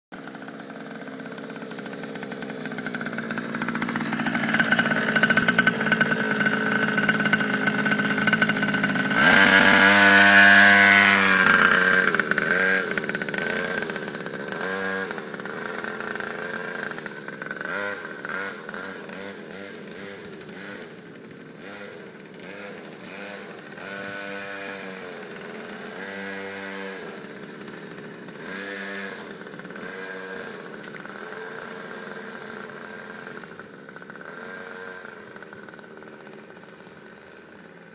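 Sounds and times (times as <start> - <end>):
quad bike engine revving: 0.1 - 37.9.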